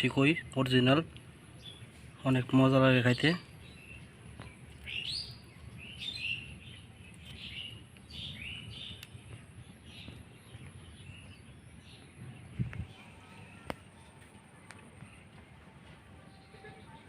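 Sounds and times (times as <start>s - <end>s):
bird chirping: 0.0s - 15.6s.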